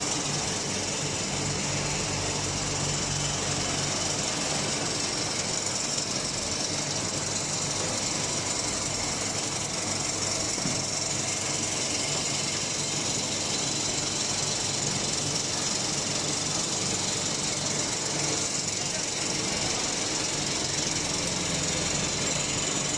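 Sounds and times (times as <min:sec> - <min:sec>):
industrial machinery rattling drone: 0:00.0 - 0:22.9.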